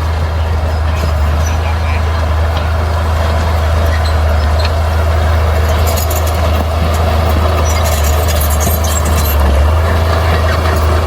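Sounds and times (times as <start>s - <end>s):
heavy diesel engine droning: 0.0s - 11.0s.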